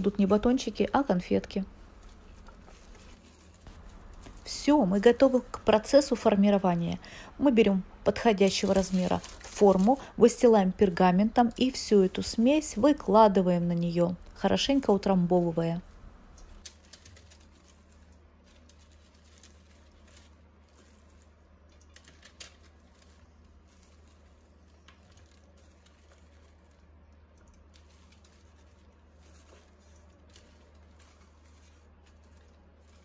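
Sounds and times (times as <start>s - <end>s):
plastic glove crinkling: 0.0s - 6.8s, 7.6s - 33.0s
low steady hum: 0.0s - 33.0s.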